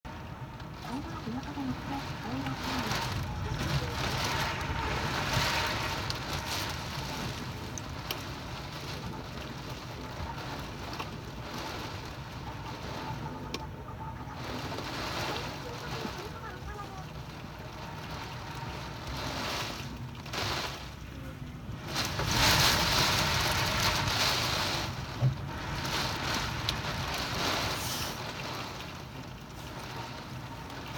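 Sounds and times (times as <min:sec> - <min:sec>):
rain hissing: 0:00.1 - 0:13.4, 0:14.4 - 0:30.9
wind gusts on microphone: 0:01.0 - 0:13.2, 0:13.8 - 0:30.9.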